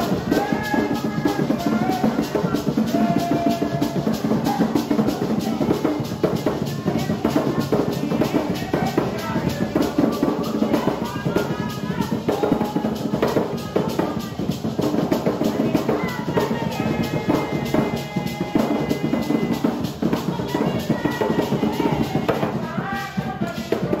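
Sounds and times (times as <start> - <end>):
hand drumming: 0.0 - 24.0
voices singing: 0.0 - 24.0.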